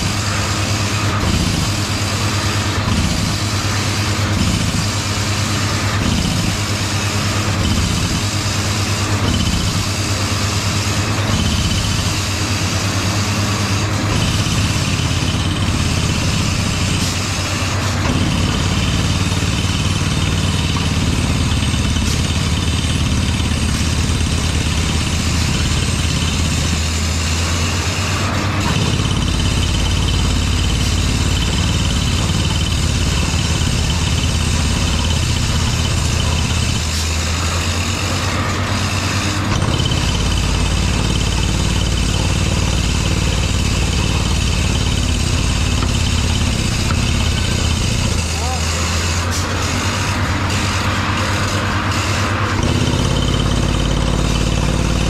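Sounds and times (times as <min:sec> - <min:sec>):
drilling rig engine humming: 0:00.0 - 0:55.0.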